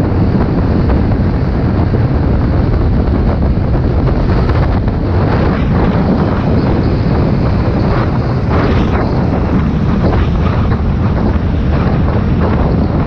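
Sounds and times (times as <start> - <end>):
scooter engine drone: 0.0 - 13.0
wind buffeting microphone: 0.0 - 13.0.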